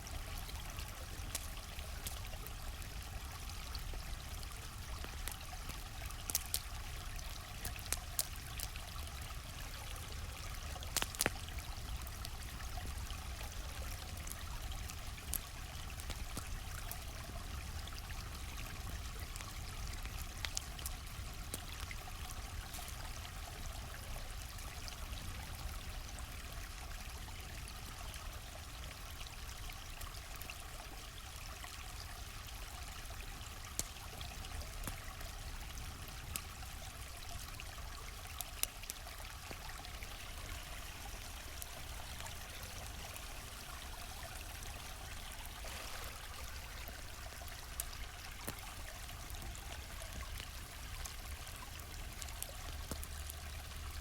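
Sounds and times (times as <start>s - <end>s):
campfire crackles and pops: 0.0s - 54.0s
stream flowing: 0.0s - 54.0s.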